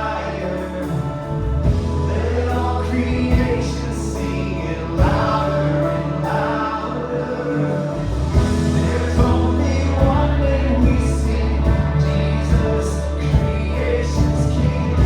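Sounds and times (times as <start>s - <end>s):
heavy bass and drums: 0.0s - 15.0s
people singing: 0.0s - 15.0s
worship band playing: 0.0s - 15.0s.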